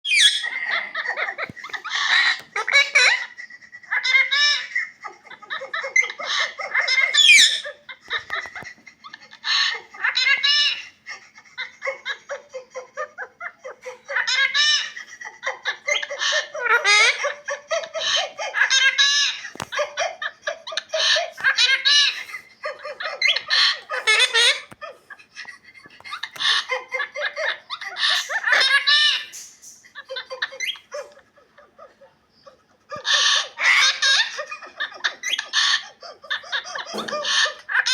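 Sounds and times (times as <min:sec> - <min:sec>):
parrot chattering and cackling: 0:00.0 - 0:37.9.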